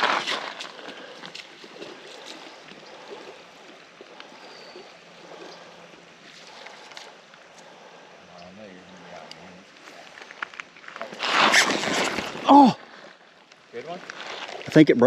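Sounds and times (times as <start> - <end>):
water ticks and splashes: 0.0 - 11.2, 12.9 - 15.0
creek water running: 0.0 - 15.0.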